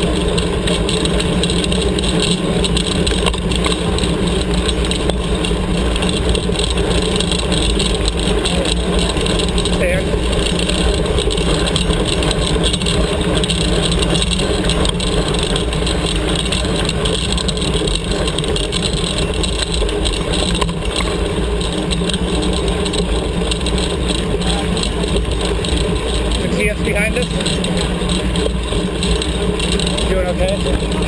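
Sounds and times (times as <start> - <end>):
bike tyres on dirt: 0.0 - 31.0
wind rumble: 0.0 - 31.0.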